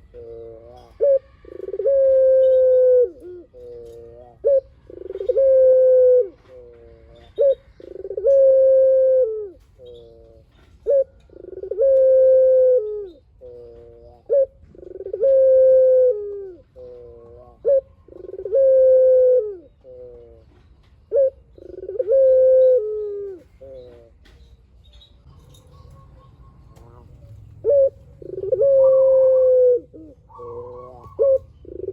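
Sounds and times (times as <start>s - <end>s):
dove cooing: 0.0s - 24.4s, 25.2s - 31.9s.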